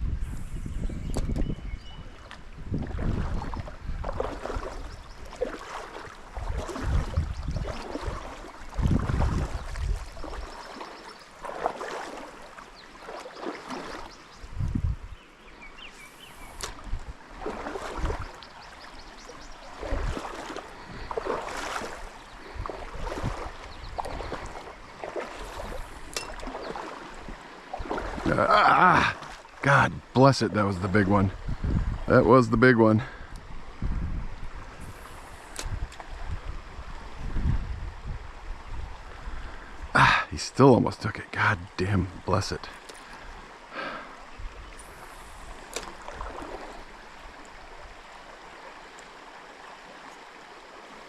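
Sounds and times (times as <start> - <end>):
stream water running: 0.0 - 51.0
water swishing and splashing: 0.0 - 51.0.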